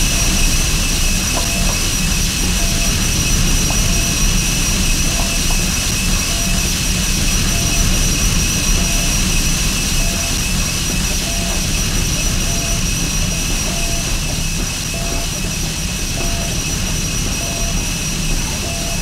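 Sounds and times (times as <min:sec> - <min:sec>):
dense low electronic noise: 0:00.0 - 0:19.0
high whining tones: 0:00.0 - 0:19.0.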